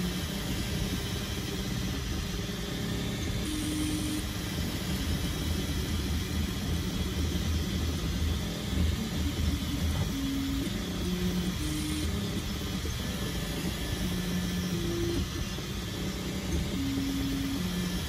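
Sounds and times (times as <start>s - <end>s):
fans whirring: 0.0s - 18.0s
stepper motors humming tones: 0.0s - 18.0s.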